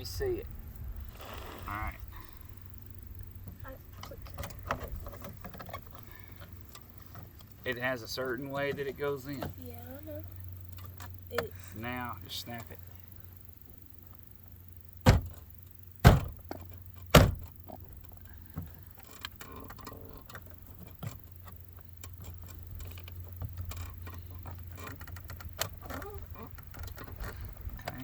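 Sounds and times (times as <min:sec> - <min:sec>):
parts clicking and rattling: 0:02.4 - 0:28.0.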